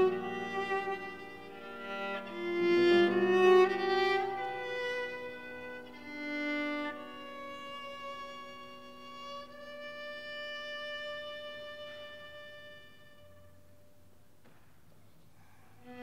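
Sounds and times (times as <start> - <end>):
viola bowed notes: 0.0 - 13.9, 15.8 - 16.0.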